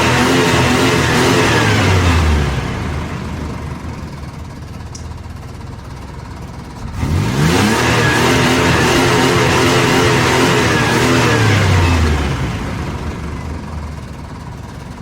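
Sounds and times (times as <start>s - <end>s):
car engine revving and idling roughly: 0.0s - 15.0s.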